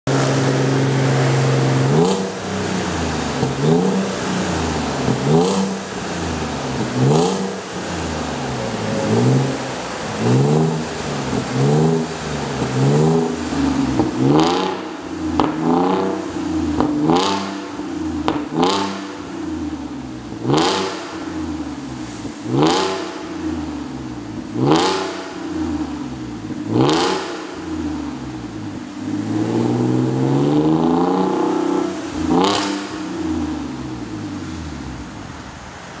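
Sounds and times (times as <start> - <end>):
car engine revving: 0.0 - 36.0
exhaust crack: 0.1 - 36.0.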